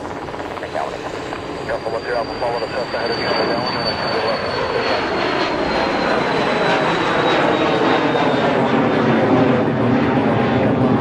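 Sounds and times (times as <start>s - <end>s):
high jet engine whine: 0.0s - 11.0s
jet engines roaring: 0.0s - 11.0s.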